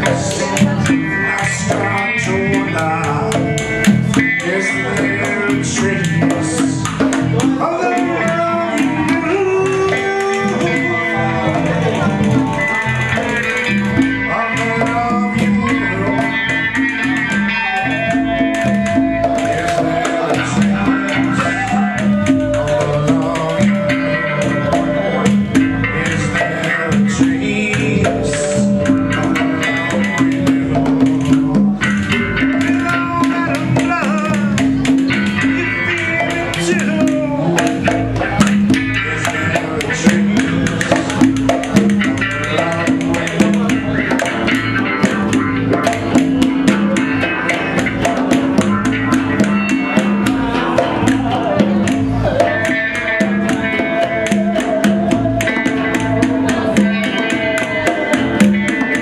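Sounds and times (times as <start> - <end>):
blues-rock band playing: 0.0 - 59.0
congas and hand percussion: 0.0 - 59.0
guitar and bass riffing: 0.0 - 59.0.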